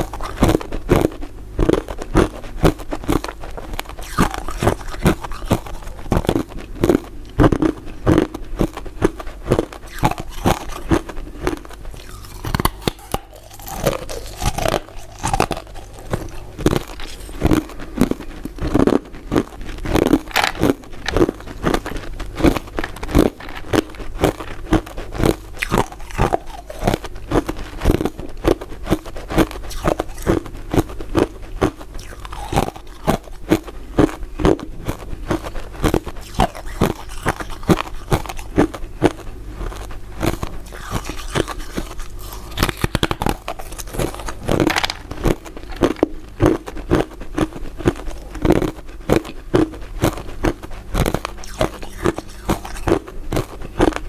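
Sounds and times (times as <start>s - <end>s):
crunching ice: 0.0s - 31.3s, 32.0s - 34.6s, 35.3s - 49.7s.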